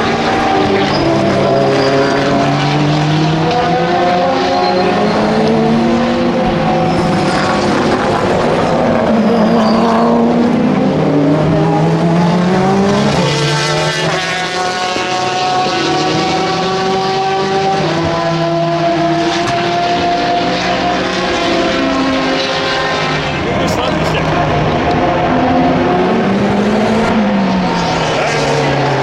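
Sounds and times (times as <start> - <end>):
race car engines passing: 0.0 - 29.0.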